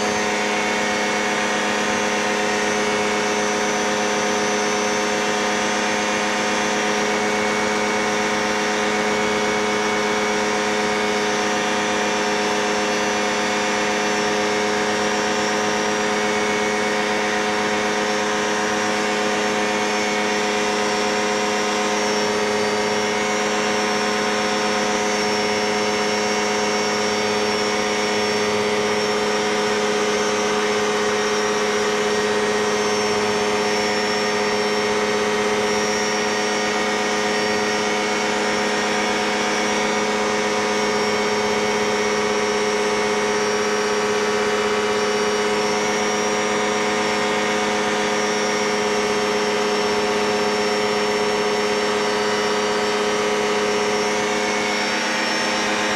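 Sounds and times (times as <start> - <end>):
light aircraft engine drone: 0.0 - 55.9.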